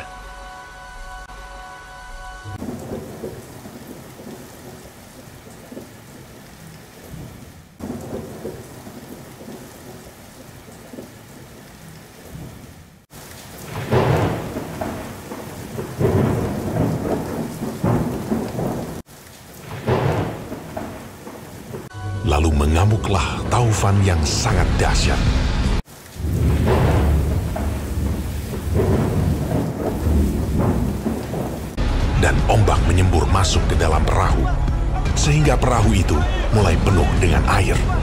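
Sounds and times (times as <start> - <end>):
steady rain: 1.6 - 38.0
rolling thunder rumbles: 2.6 - 21.9, 23.2 - 34.4.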